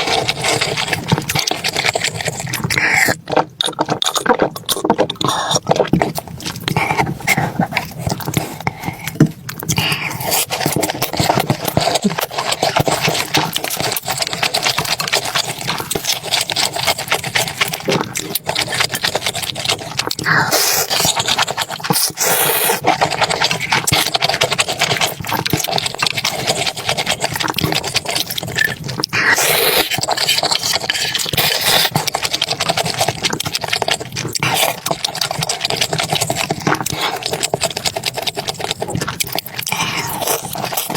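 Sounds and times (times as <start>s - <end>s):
chewing and slurping: 0.0s - 40.9s.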